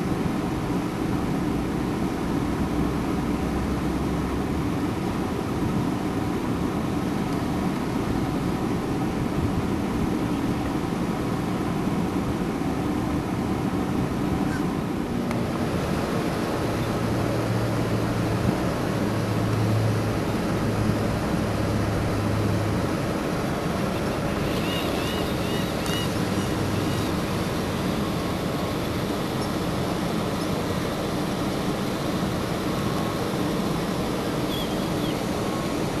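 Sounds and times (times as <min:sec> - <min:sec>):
wind and road noise of car: 0:00.0 - 0:36.0.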